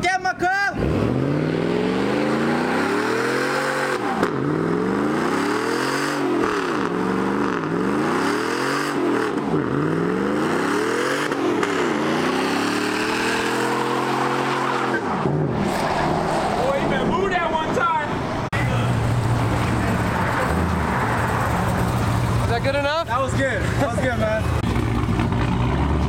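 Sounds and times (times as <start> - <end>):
truck engine revving hard: 0.8 - 16.9, 18.4 - 22.5, 23.7 - 26.0.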